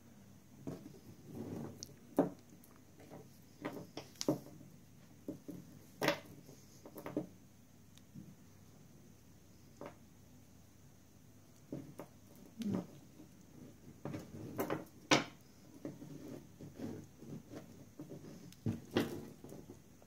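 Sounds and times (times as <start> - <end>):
soft rustle of thread: 0.5 - 10.6, 11.3 - 20.0.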